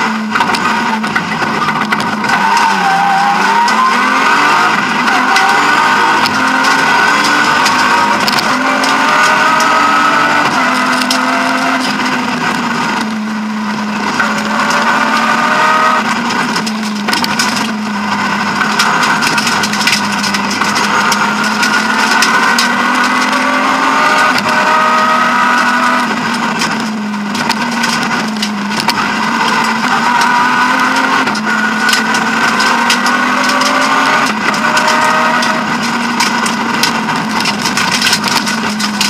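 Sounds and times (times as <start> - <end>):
car engine revving high: 0.0 - 39.0
car rattling over road: 0.0 - 39.0.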